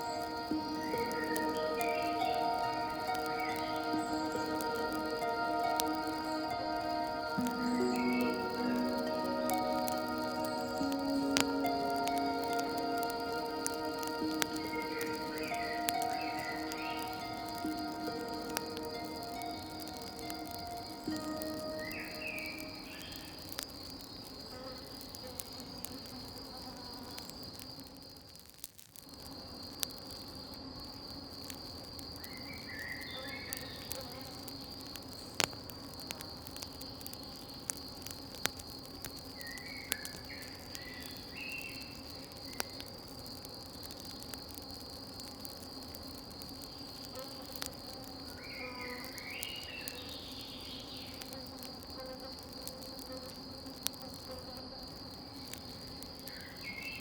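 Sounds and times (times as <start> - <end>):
campfire crackling: 0.0 - 57.0
crickets chirring: 0.0 - 57.0.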